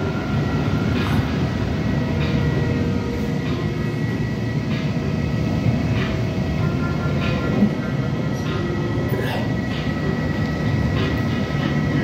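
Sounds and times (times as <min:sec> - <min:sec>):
low airport rumble: 0:00.0 - 0:12.0.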